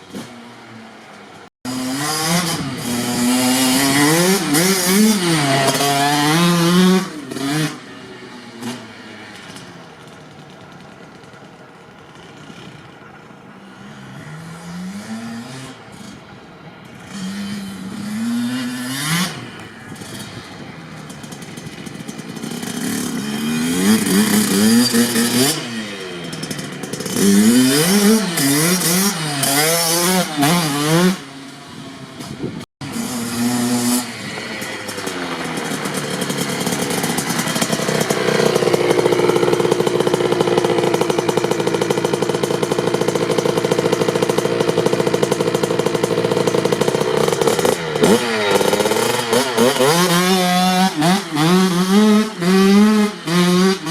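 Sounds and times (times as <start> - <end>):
dirt bike engine revving: 1.7 - 9.7, 13.7 - 31.5, 32.2 - 53.9.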